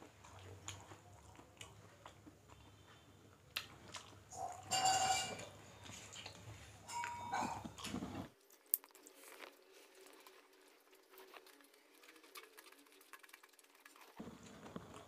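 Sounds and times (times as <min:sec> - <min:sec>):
eating by hand and chewing: 0:00.0 - 0:15.0.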